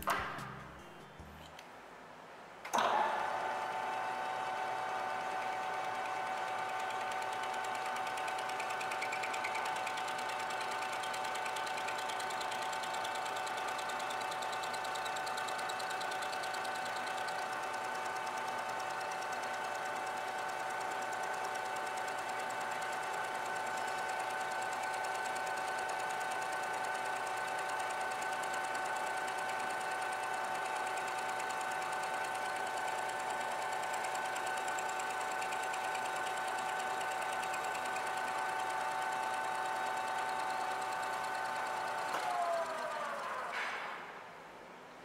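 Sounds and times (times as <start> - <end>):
lathe whining: 2.8 - 43.5.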